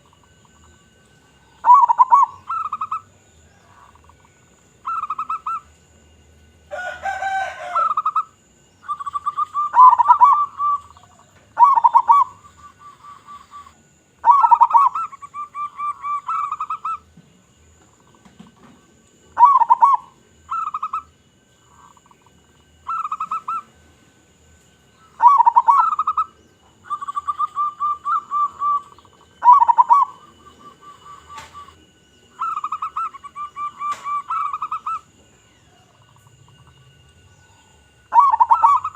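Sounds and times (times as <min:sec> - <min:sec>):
dove cooing: 0:01.4 - 0:05.7, 0:06.7 - 0:17.2, 0:18.0 - 0:23.8, 0:25.0 - 0:38.9.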